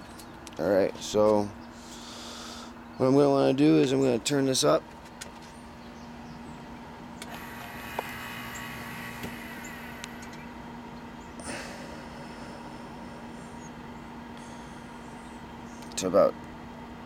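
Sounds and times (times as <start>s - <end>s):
grill fan humming: 0.0s - 17.0s.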